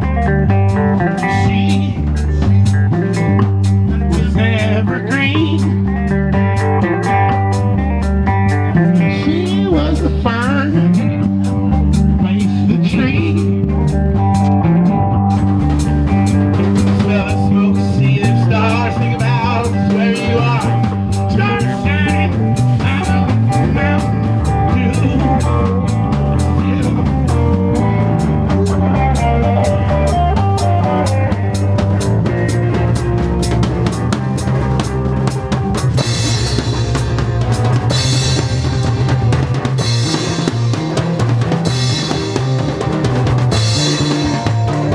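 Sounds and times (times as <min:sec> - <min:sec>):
bass line: 0:00.0 - 0:44.9
drum kit beat: 0:00.0 - 0:44.9
guitar lines: 0:00.0 - 0:44.9.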